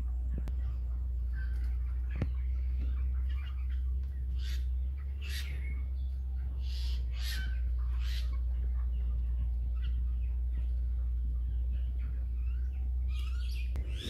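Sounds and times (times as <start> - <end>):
chickens giving harsh calls: 0.0 - 14.0
steady low hum: 0.0 - 14.0.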